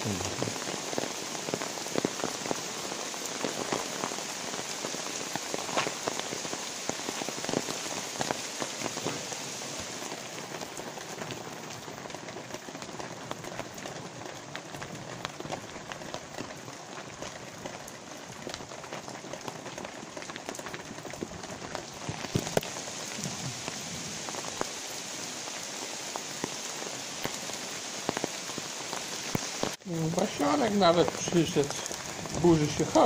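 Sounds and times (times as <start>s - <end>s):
light rain pattering: 0.0s - 33.0s.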